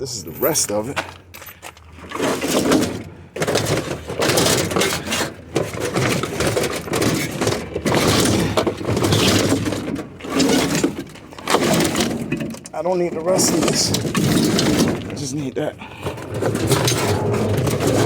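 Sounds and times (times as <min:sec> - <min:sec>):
scrap metal clattering and scraping: 0:00.1 - 0:18.0.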